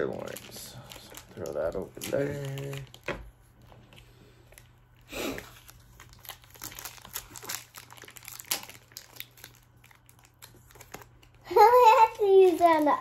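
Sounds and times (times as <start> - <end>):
card pack wrapper crinkling: 0.0 - 3.2, 5.4 - 13.0.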